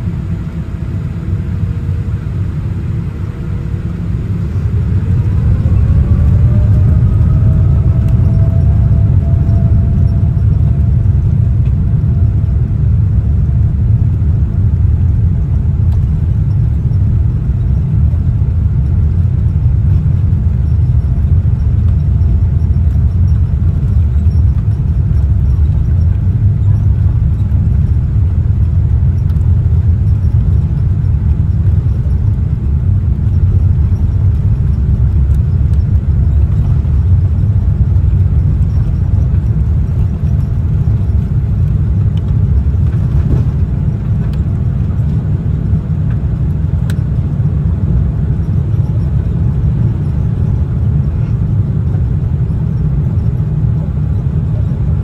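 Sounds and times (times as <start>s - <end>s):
aircraft cabin engine rumble: 0.0s - 55.0s
faint constant tone: 0.0s - 55.0s.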